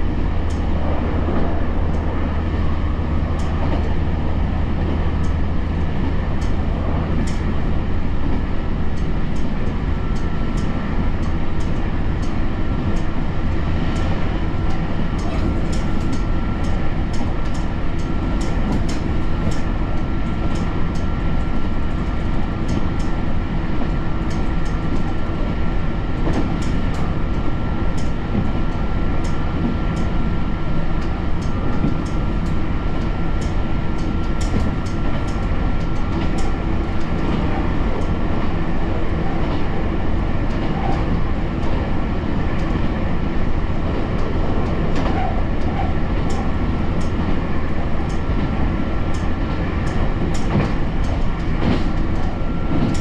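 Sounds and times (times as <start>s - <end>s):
constant high whine: 0.0s - 53.0s
railcar running noise: 0.0s - 53.0s.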